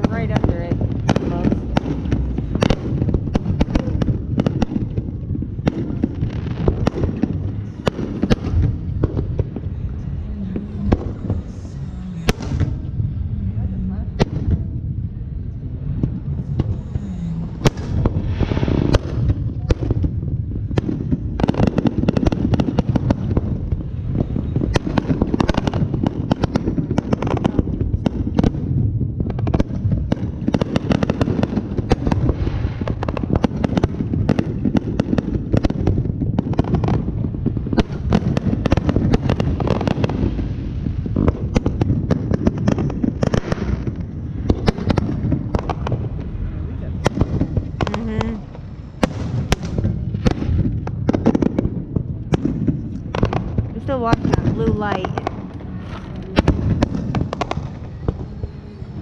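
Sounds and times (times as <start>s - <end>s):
fireworks booms: 0.0s - 59.0s
fireworks crackling bursts: 0.0s - 59.0s.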